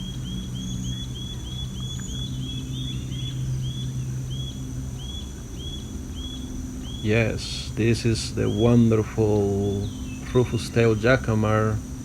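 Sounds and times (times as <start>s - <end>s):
high insect drone: 0.0s - 12.0s
low steady hum: 0.0s - 12.0s.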